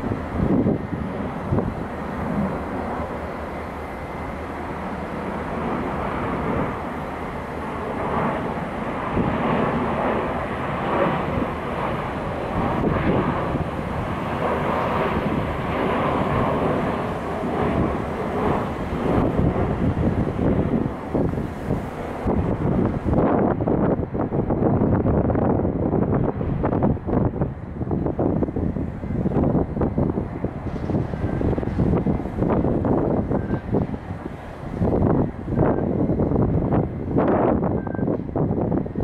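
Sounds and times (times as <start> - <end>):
wind on microphone: 0.0 - 39.0.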